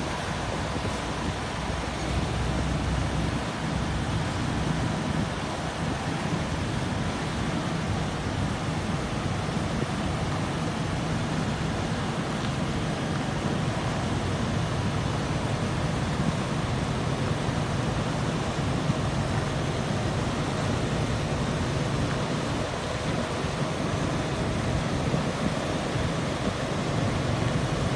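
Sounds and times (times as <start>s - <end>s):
diesel truck engine running: 0.0s - 27.9s
wind noise on microphone: 0.0s - 27.9s.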